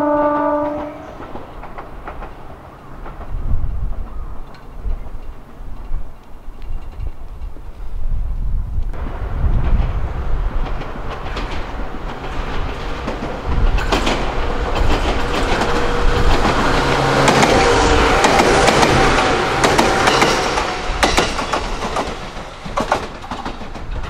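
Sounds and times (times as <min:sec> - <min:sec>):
electric train rumbling past: 0:00.0 - 0:24.0
steady train whine: 0:00.0 - 0:24.0
wheels clacking over rail joints: 0:00.3 - 0:07.9, 0:09.0 - 0:24.0.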